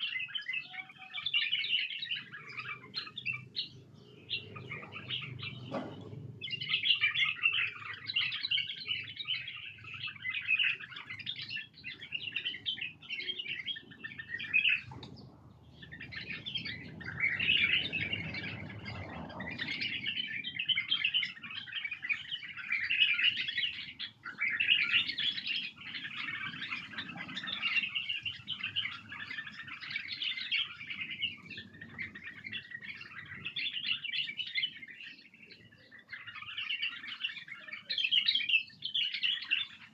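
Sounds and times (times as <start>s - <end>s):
bulbuls singing and chattering: 0.0s - 39.9s.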